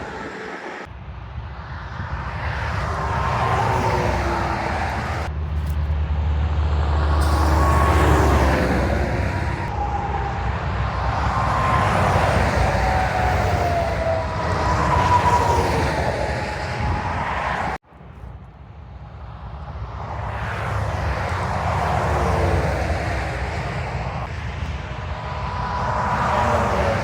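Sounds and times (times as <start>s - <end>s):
trucks passing on a highway: 0.0s - 27.0s.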